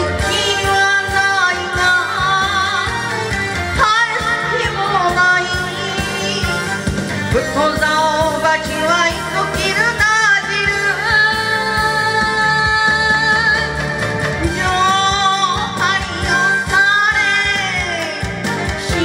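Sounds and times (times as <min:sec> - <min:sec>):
instrumental accompaniment: 0:00.0 - 0:19.0
woman singing into microphone: 0:00.0 - 0:19.0.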